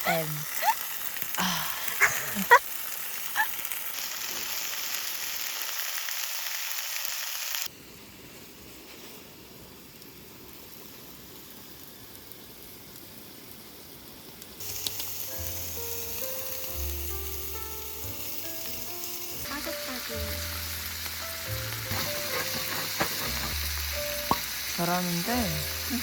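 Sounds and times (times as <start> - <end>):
food sizzling in frying pan: 0.0 - 7.7, 9.8 - 26.0.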